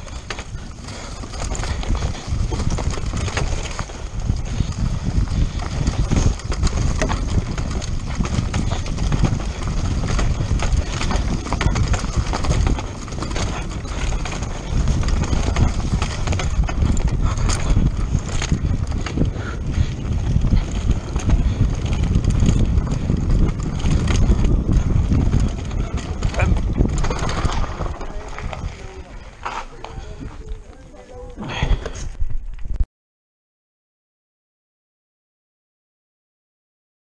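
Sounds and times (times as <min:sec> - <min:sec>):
bike chain and frame clacking: 0:00.0 - 0:30.8
wind rumble on microphone: 0:00.0 - 0:32.8.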